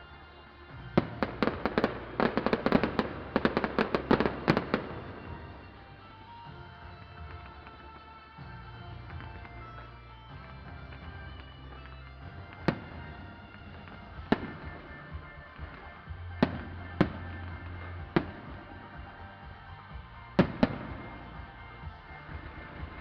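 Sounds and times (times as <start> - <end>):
electronic dance music: 0.0 - 23.0
fireworks shells bursting: 0.0 - 23.0.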